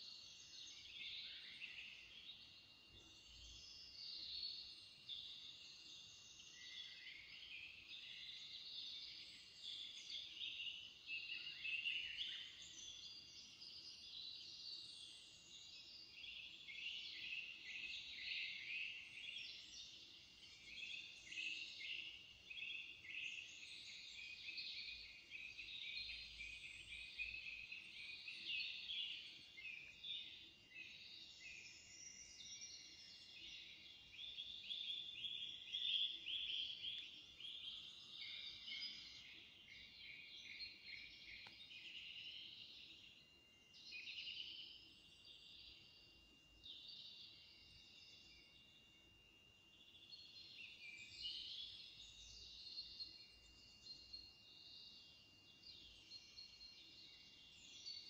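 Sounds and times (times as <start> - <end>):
small birds singing: 0.0 - 58.0.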